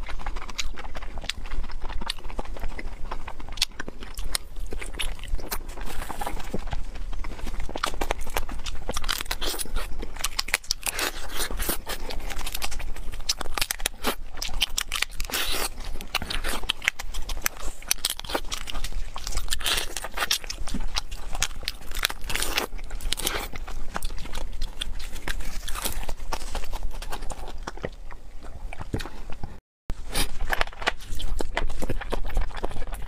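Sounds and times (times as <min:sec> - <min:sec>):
wet crunching and chewing: 0:00.0 - 0:33.0.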